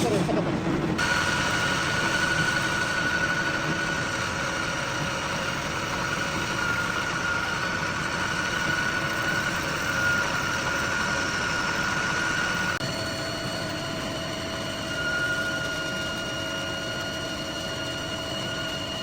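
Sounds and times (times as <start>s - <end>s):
metal lathe running: 0.0s - 15.7s
high-pitched machine whine: 0.0s - 19.0s.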